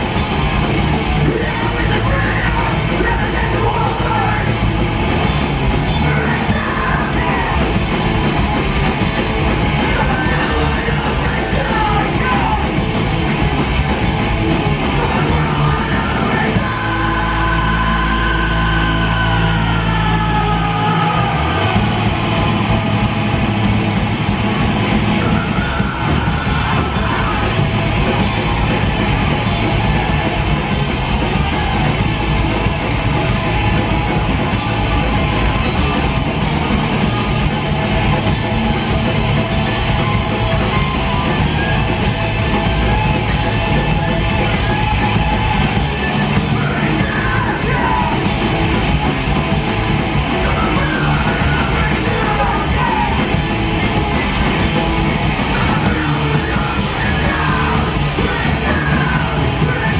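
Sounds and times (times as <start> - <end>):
bass guitar: 0.0 - 59.9
distorted electric guitars: 0.0 - 59.9
drums: 0.0 - 59.9
yelled vocals: 0.0 - 59.9.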